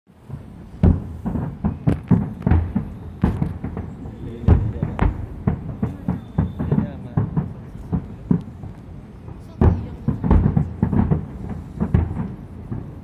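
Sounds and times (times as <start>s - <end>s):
fireworks booming and cracking: 0.1s - 13.0s.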